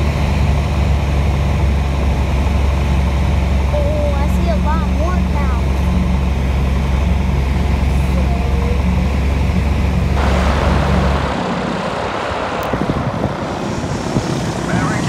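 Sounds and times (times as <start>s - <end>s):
light aircraft engine droning: 0.0s - 15.0s
wind rumbling on microphone: 0.0s - 15.0s.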